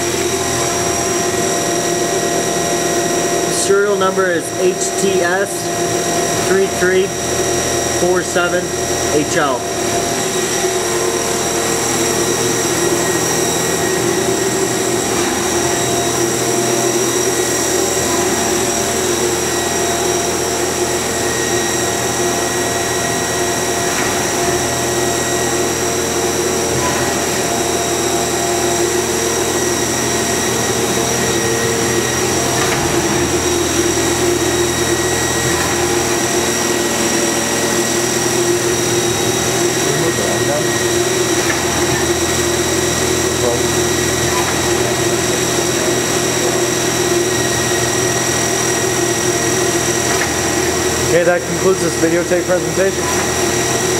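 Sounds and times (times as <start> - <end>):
high machine whine: 0.0 - 53.9
machine hum: 0.0 - 53.9.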